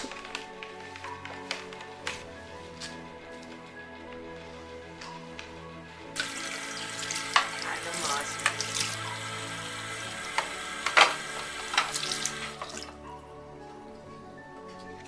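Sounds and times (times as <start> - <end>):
water running: 0.0 - 14.1
soft background music: 0.0 - 15.0.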